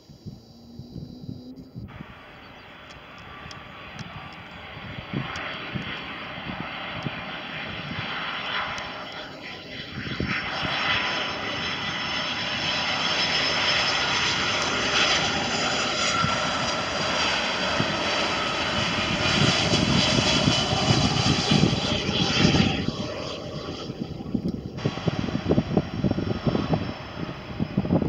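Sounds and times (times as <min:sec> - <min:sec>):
high-pitched engine whine: 0:00.0 - 0:28.0
jet engine roar: 0:00.0 - 0:28.0.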